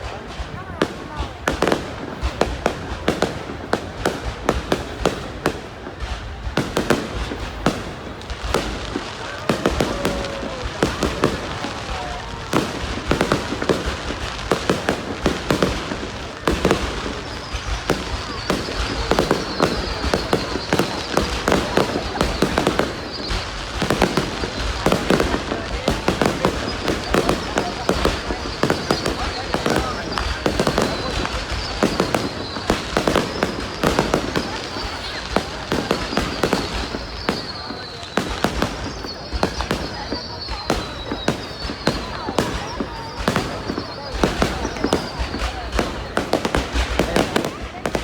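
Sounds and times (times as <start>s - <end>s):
crowd voices: 0.0s - 48.0s
fireworks bangs and crackles: 0.0s - 48.0s.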